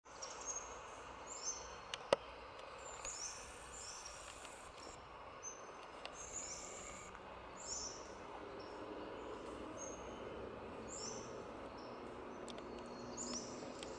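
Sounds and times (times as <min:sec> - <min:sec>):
birds chirping: 0:00.1 - 0:13.9
steady background hiss: 0:00.1 - 0:13.9.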